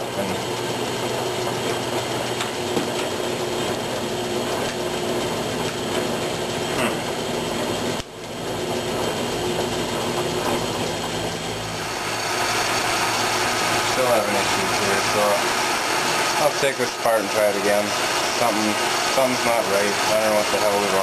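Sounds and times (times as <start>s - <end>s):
metal lathe whirring: 0.0s - 21.0s.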